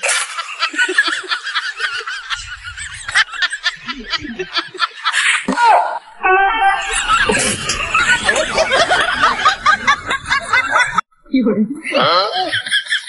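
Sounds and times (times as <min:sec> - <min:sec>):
snickering and giggling laughter: 0:00.0 - 0:05.6, 0:06.7 - 0:11.0, 0:12.2 - 0:13.0
quick-pulsed cackle: 0:00.0 - 0:11.0.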